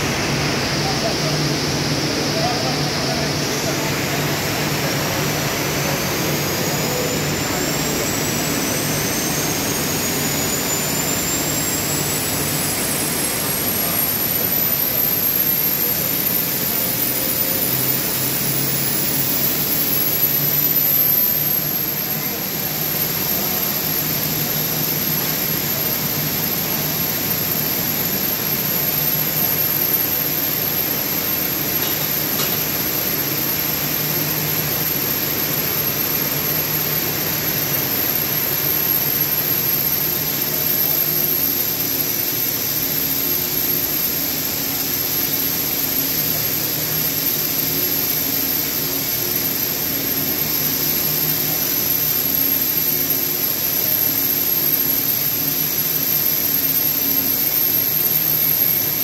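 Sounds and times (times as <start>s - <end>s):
machines whirring hum: 0.0s - 59.0s
thin high whine: 0.0s - 59.0s.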